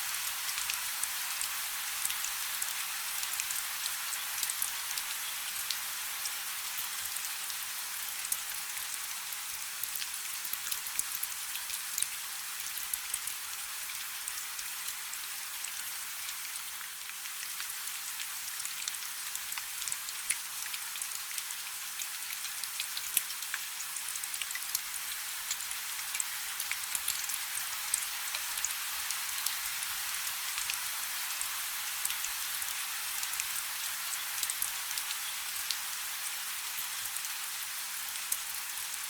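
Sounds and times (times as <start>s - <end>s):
light rain falling: 0.0s - 39.0s.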